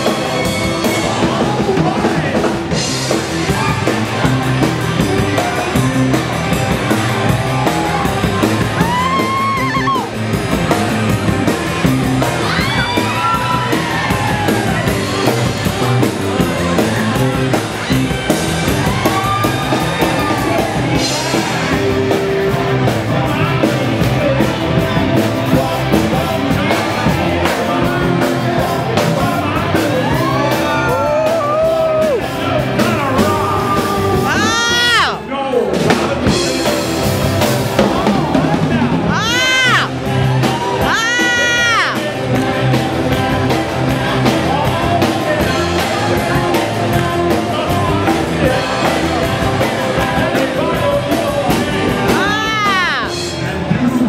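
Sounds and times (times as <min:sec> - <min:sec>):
rock and roll music with singer: 0:00.0 - 0:54.0
people yelling and whooping: 0:03.1 - 0:35.5, 0:37.4 - 0:54.0.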